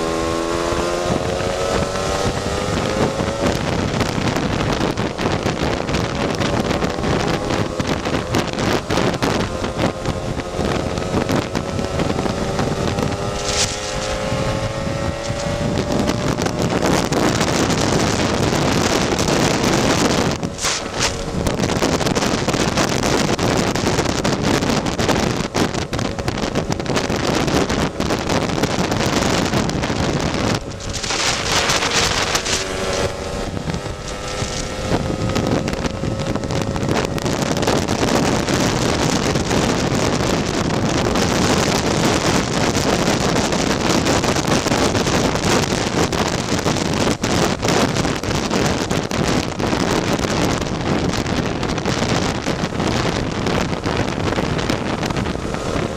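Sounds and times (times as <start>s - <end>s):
wind noise on microphone: 0.0s - 55.9s
scooter two-stroke engine: 2.4s - 55.9s.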